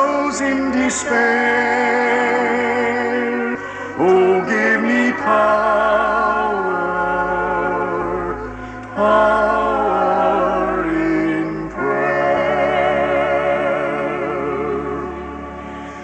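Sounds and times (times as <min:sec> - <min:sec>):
gospel singing with vibrato: 0:00.0 - 0:16.0.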